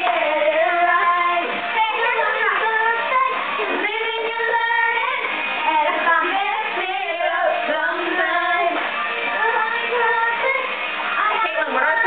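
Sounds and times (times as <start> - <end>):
girls singing: 0.0 - 12.0
pop song with guitar: 0.0 - 12.0.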